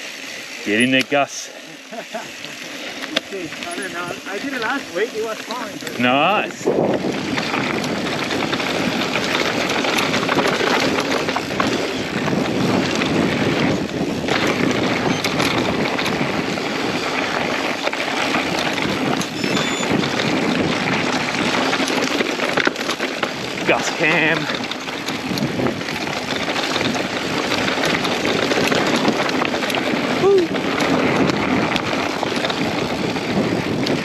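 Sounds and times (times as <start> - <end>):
bike clicks and rattles: 0.0 - 34.0
tyres running on dirt trail: 0.0 - 34.0
wind rushing over microphone: 3.3 - 34.0.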